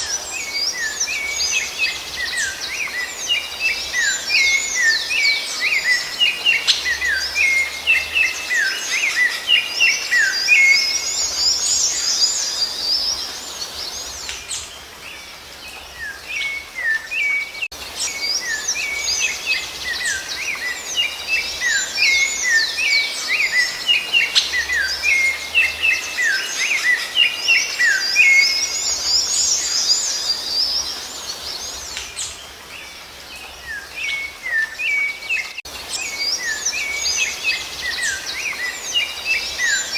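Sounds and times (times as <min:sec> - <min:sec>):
background hiss: 0:00.0 - 0:39.9
songbird chirping: 0:00.0 - 0:39.9.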